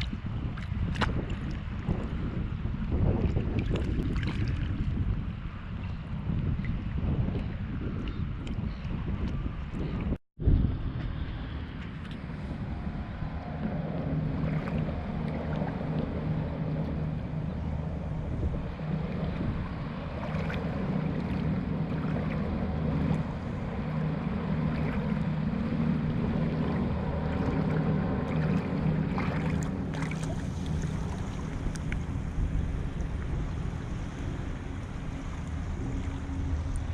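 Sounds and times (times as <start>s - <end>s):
choppy water: 0.0s - 36.9s
steady low hum: 0.0s - 36.9s
wind buffeting microphone: 0.0s - 36.9s.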